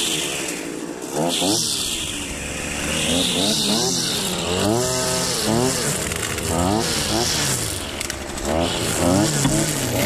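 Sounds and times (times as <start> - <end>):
string trimmer engine revving: 0.0 - 10.0.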